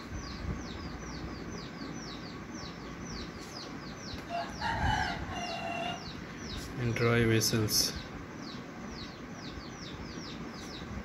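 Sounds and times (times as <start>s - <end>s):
small bird high chirps: 0.0s - 11.0s.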